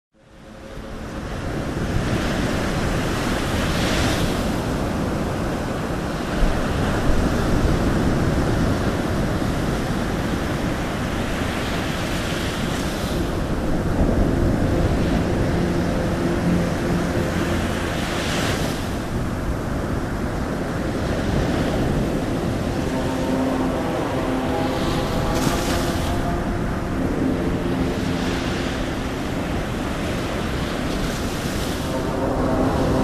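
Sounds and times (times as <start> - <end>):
ocean waves washing: 0.2 - 33.0.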